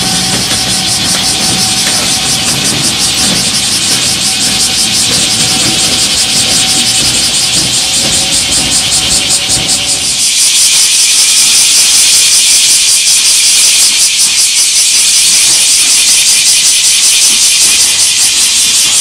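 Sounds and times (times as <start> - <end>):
pulsing high-pitched hiss: 0.0 - 19.0.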